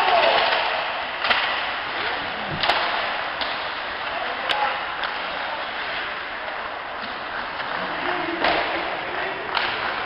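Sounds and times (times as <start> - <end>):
hockey sticks and puck clacking: 0.0 - 10.0
skates and arena noise: 0.0 - 10.0.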